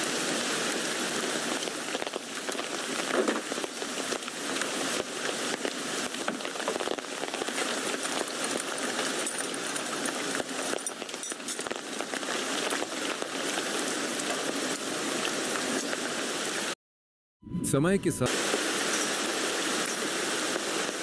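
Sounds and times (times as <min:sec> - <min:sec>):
rain falling on a tent: 0:00.0 - 0:16.8, 0:18.3 - 0:21.0.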